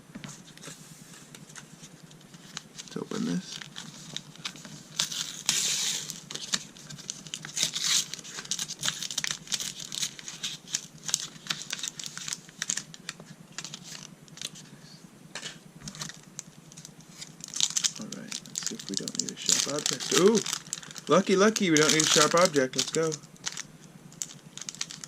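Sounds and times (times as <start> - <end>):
foil wrapper crinkling: 1.5 - 14.6, 15.8 - 25.0.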